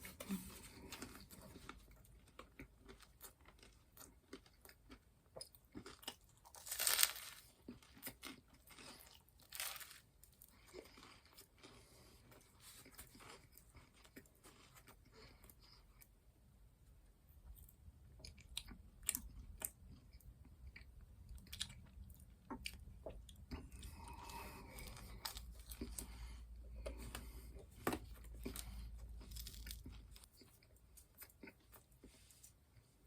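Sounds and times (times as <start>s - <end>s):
chewing and crunching food: 0.0s - 16.2s, 17.3s - 33.0s.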